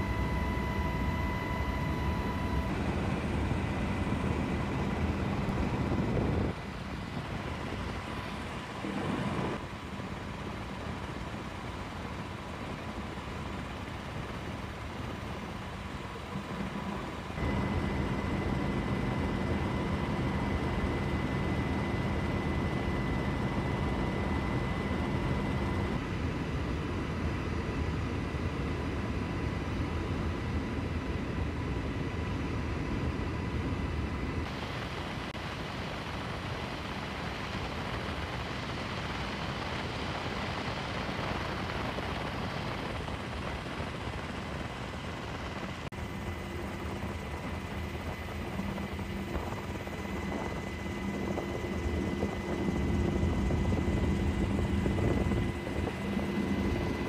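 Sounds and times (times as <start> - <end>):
aircraft engine whine: 0.0 - 57.0.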